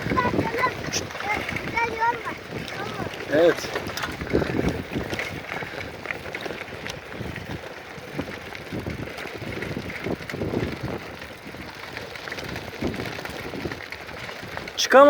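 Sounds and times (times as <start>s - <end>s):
wind buffeting microphone: 0.0s - 14.9s
bicycle rolling noise: 0.0s - 15.0s.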